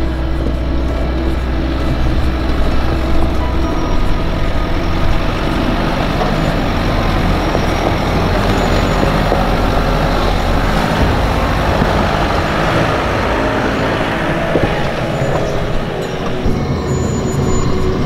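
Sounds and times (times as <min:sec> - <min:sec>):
vehicle engine rumbling past: 0:00.0 - 0:18.0.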